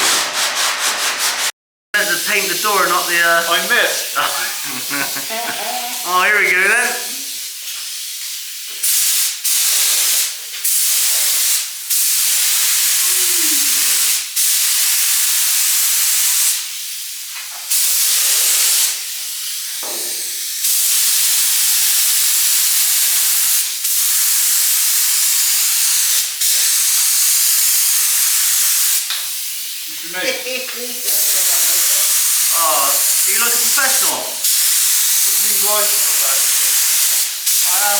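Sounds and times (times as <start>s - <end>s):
spray paint hissing: 2.0s - 37.9s.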